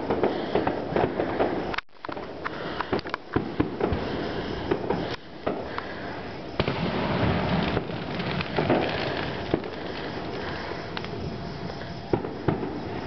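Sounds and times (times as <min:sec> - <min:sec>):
fireworks bangs and pops: 0:00.0 - 0:13.0
fireworks crackling hiss: 0:00.0 - 0:13.0.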